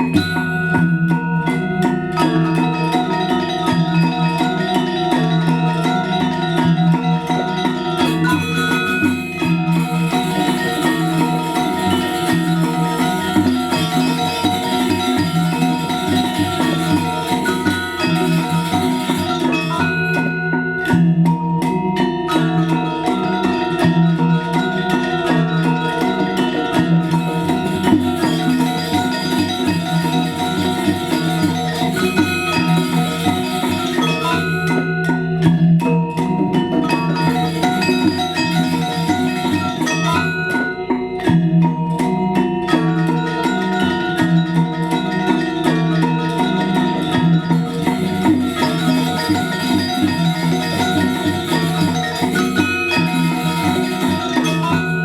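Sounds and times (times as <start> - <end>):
gamelan playing: 0.0 - 55.0.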